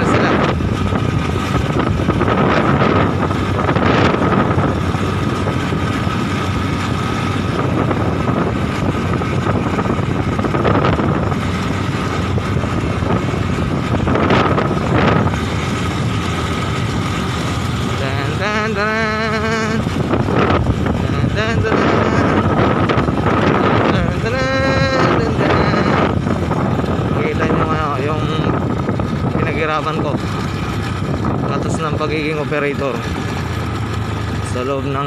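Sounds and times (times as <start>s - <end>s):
motorcycle engine humming: 0.0s - 35.0s
wind buffeting microphone: 0.0s - 35.0s.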